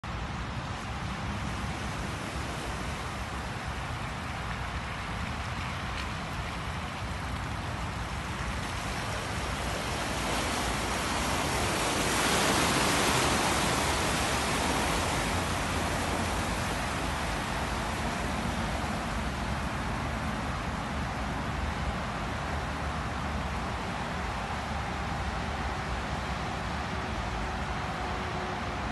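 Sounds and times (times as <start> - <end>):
water rushing and splashing: 0.0 - 28.9.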